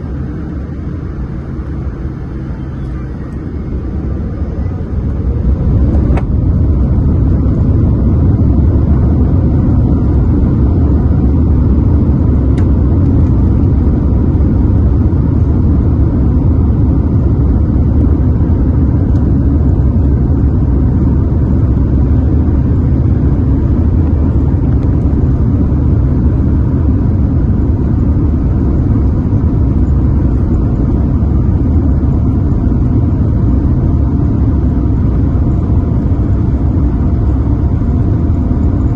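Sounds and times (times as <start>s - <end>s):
airliner taking off rumble: 0.0s - 38.9s.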